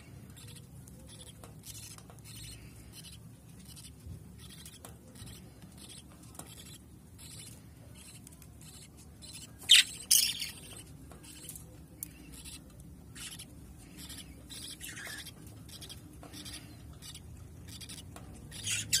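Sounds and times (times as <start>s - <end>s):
young birds chirping: 0.0s - 19.0s
bird squawks: 0.4s - 11.5s, 12.4s - 19.0s.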